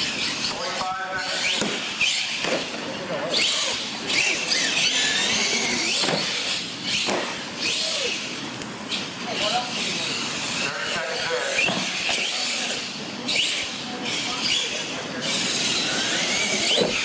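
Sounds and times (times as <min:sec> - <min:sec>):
toy truck electric motor whining: 0:00.0 - 0:02.4, 0:03.0 - 0:17.0.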